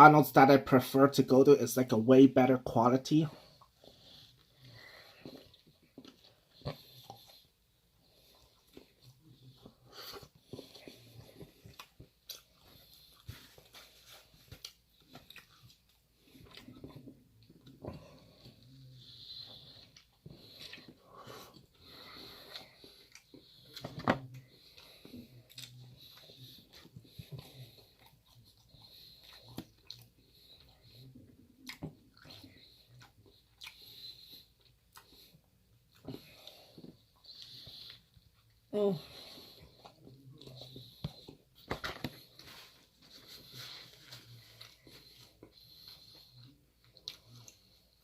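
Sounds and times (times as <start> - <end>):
person chewing: 3.5 - 48.0.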